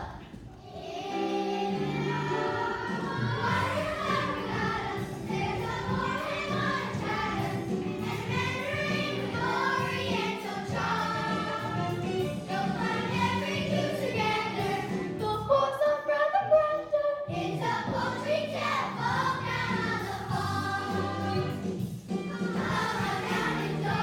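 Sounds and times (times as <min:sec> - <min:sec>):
children singing together: 0:00.0 - 0:16.2, 0:17.3 - 0:24.0
musical accompaniment: 0:00.0 - 0:24.0.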